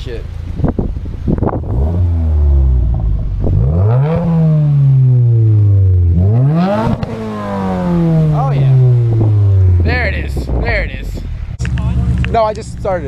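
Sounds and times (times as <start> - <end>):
car engine revving: 0.3 - 13.0.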